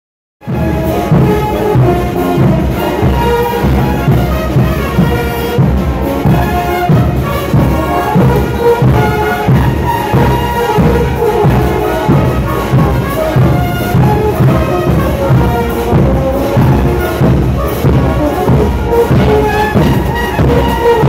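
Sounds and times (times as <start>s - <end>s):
marching brass band: 0.4s - 21.0s.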